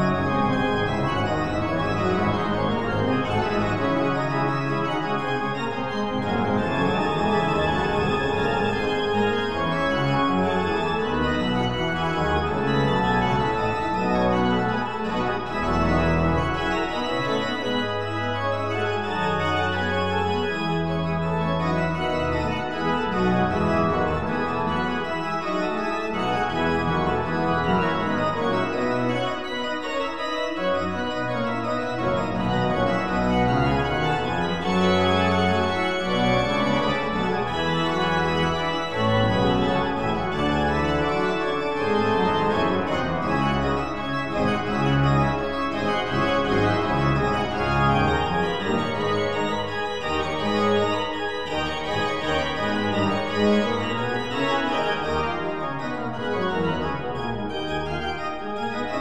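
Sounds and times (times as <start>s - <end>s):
slow organ music: 0.0s - 59.0s.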